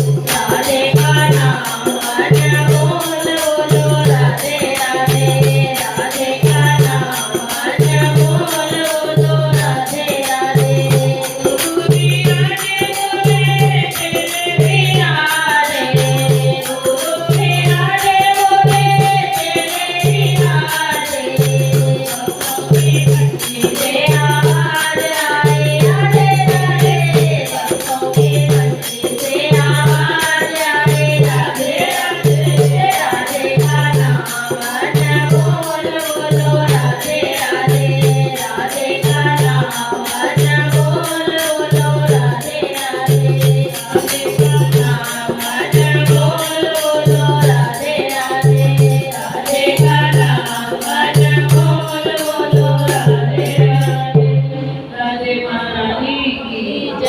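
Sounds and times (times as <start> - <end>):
person singing devotional melody: 0.0 - 57.0.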